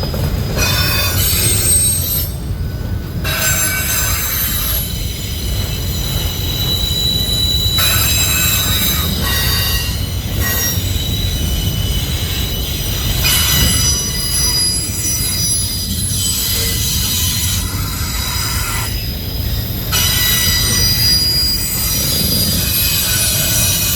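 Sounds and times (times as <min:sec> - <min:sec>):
freight cars rumbling: 0:00.0 - 0:23.9
train wheels squealing: 0:00.0 - 0:23.9.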